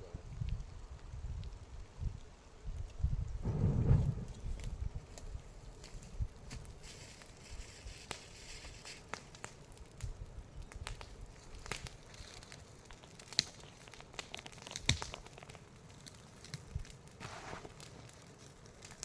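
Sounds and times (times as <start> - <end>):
dry twigs and leaves crackling: 0.1 - 19.0.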